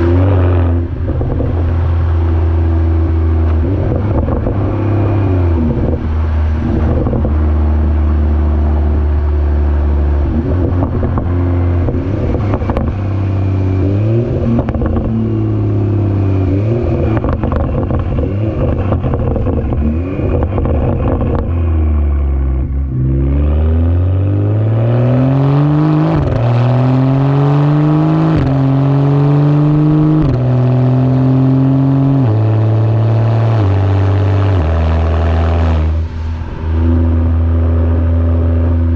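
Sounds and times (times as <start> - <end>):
car engine and exhaust accelerating: 0.0 - 38.9.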